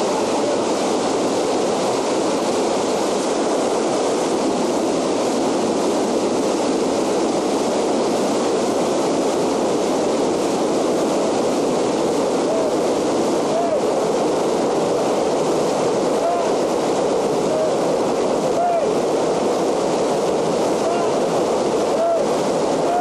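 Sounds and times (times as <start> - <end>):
river rushing around rocks: 0.0 - 23.0.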